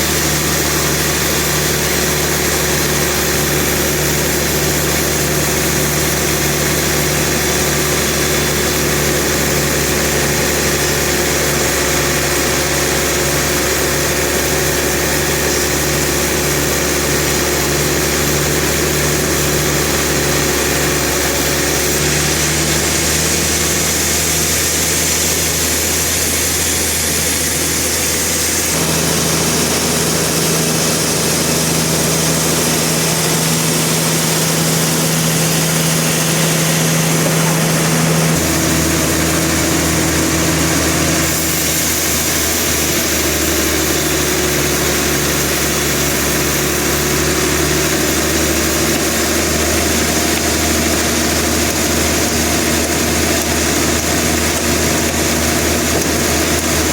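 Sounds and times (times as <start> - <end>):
sawmill machinery engine hum: 0.0 - 56.9.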